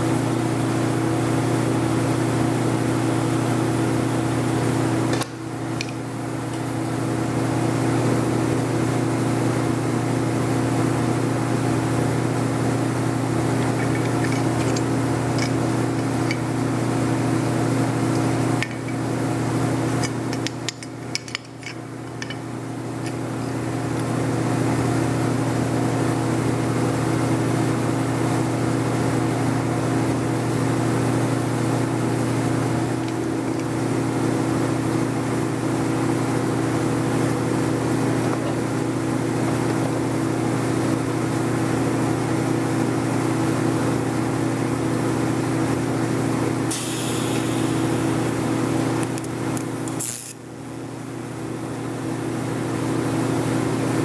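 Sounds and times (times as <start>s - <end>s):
shop machinery humming: 0.0s - 54.0s.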